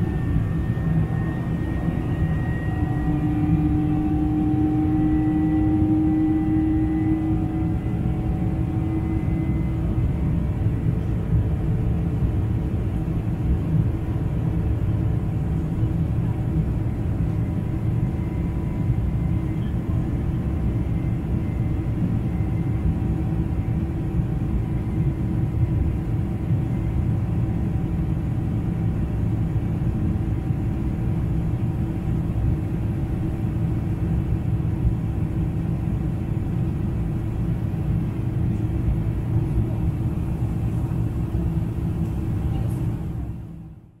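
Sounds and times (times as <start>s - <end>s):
faint steady engine tones: 0.0s - 44.0s
jet engine cabin rumble: 0.0s - 44.0s.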